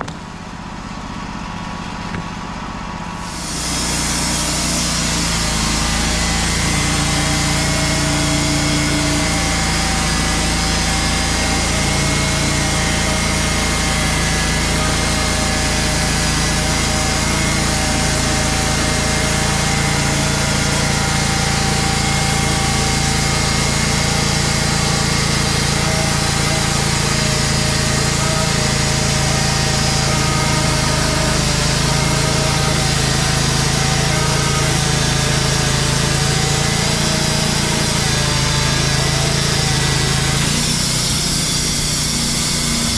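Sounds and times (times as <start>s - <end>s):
saw blade cutting log: 0.0s - 2.6s, 3.2s - 42.9s
band sawmill running: 0.0s - 42.9s.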